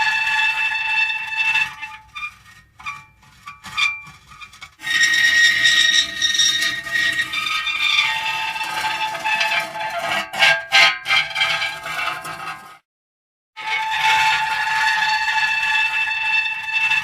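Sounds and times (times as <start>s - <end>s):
metal creaking and squealing: 0.0s - 12.8s, 13.6s - 17.0s.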